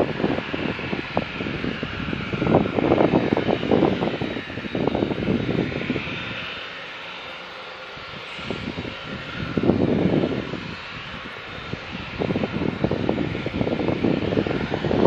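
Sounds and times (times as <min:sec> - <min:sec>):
wind buffeting microphone: 0:00.0 - 0:06.7, 0:07.9 - 0:15.0
distant jet engines running: 0:00.0 - 0:15.0.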